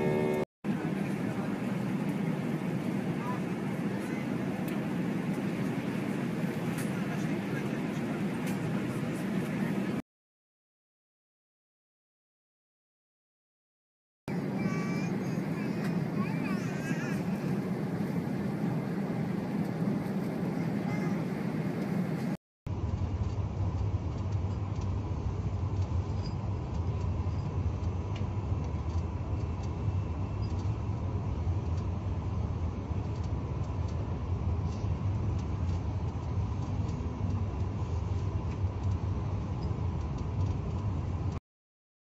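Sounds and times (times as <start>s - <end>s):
low rumble of engines and airflow: 0.0s - 10.0s, 14.3s - 41.4s.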